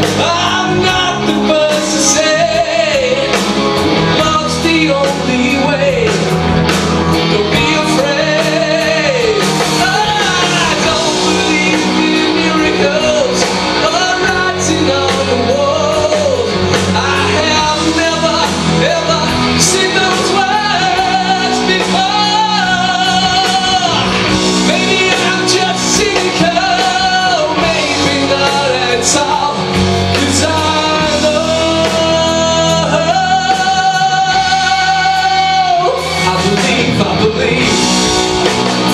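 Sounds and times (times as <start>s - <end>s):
person singing: 0.0s - 38.9s
rock band playing: 0.0s - 38.9s.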